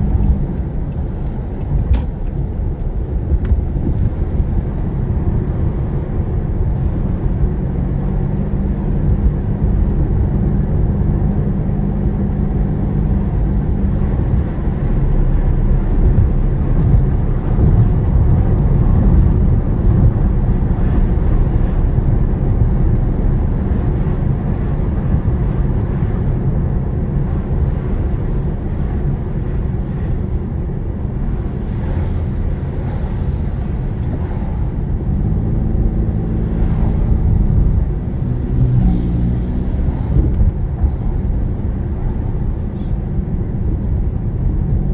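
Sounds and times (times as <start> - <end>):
car engine hum: 0.0 - 44.9
road and tyre rumble: 0.0 - 44.9.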